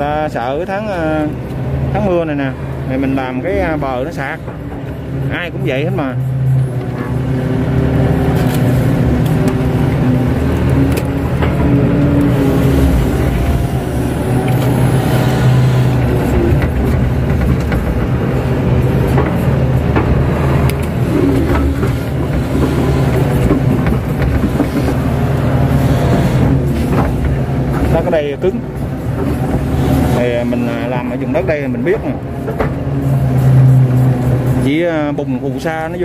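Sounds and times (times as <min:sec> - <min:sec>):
excavator diesel engine running: 0:00.4 - 0:35.5.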